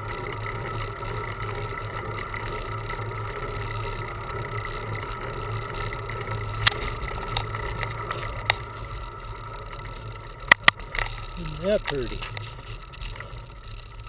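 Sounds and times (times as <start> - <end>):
wind and road noise from bicycle: 0.0 - 14.0.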